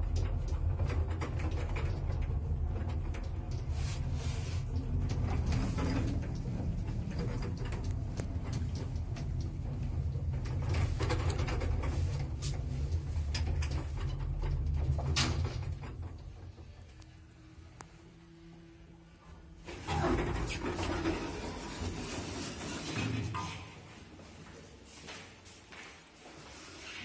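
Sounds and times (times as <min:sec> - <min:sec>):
lift car rumbling: 0:00.0 - 0:23.3.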